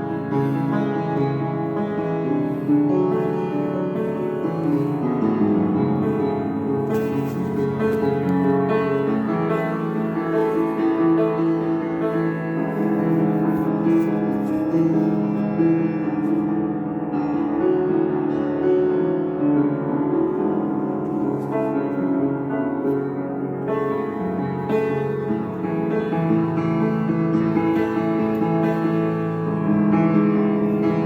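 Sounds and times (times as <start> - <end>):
gentle piano piece: 0.0 - 31.0.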